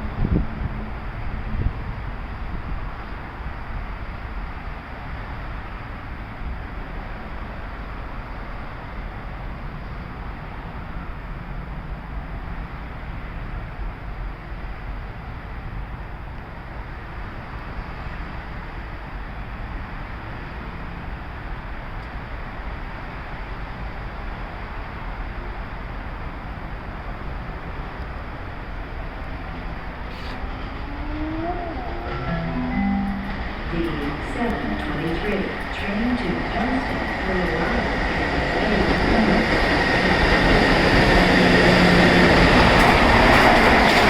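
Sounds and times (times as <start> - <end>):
electric train rumble and hiss: 0.0 - 44.0.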